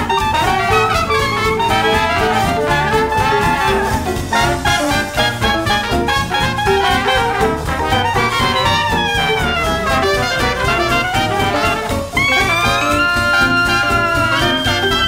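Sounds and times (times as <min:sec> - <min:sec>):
jazz music with brass: 0:00.0 - 0:15.0.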